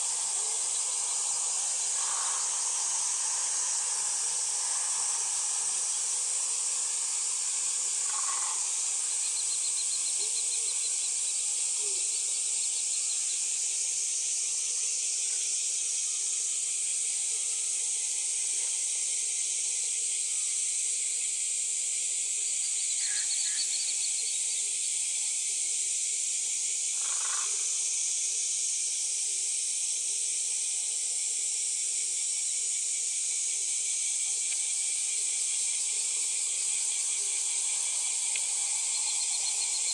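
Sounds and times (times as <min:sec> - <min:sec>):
steady high-pitched hiss: 0:00.0 - 0:39.9.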